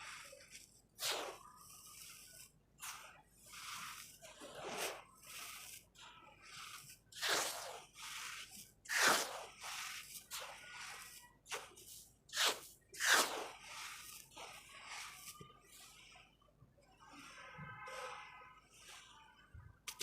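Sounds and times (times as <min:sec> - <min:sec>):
sand-cement crumbling and crunching: 0:00.0 - 0:16.2.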